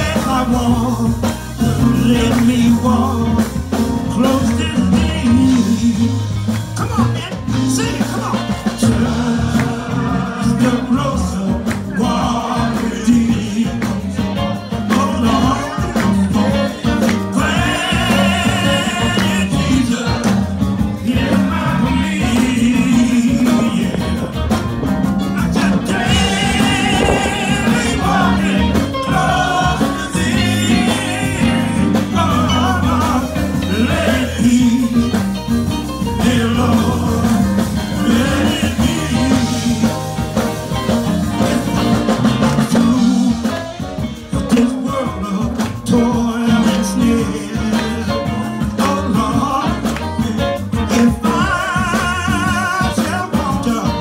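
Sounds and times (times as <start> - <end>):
band accompaniment with bass line: 0.0 - 54.0
men's choir singing a hymn: 0.0 - 54.0.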